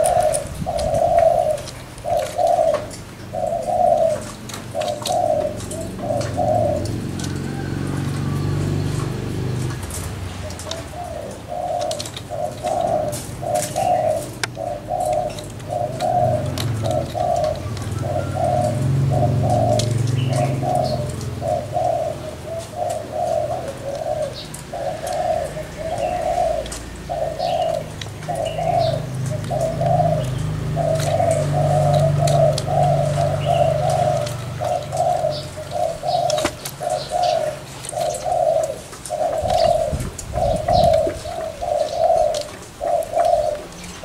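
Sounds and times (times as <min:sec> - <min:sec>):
doves cooing: 0:00.0 - 0:44.0.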